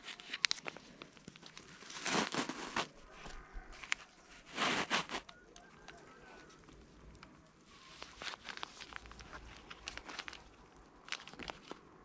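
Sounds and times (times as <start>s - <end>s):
rustling crinkling noise: 0.0s - 12.0s.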